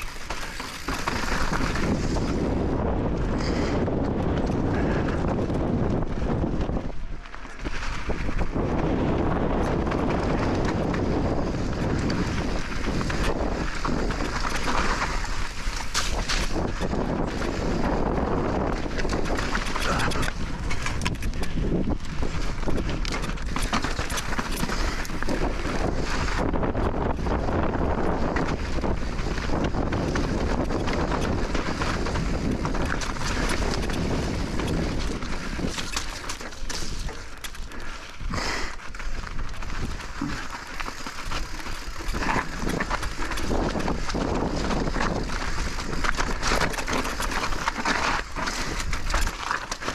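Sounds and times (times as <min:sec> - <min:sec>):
bike clicks and rattles: 0:00.0 - 0:49.9
bike tyre noise: 0:00.0 - 0:49.9
wind on microphone: 0:00.0 - 0:49.9.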